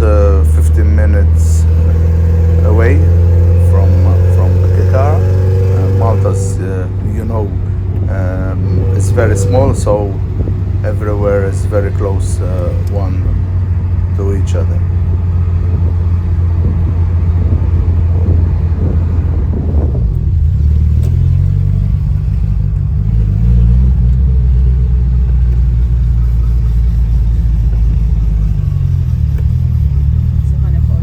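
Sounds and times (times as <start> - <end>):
car engine driving on road: 0.0 - 31.0.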